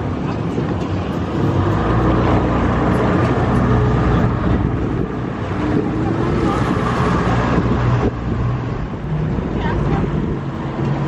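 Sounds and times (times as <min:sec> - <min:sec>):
motorboat engine humming: 0:00.0 - 0:11.0
wind and water rushing: 0:00.0 - 0:11.0.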